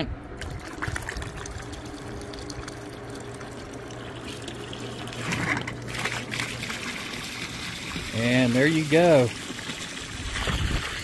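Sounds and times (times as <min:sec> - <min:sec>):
submersible pump humming: 0:00.0 - 0:11.0
water churning and bubbling: 0:00.4 - 0:11.0
water splashing from hose: 0:00.4 - 0:11.0.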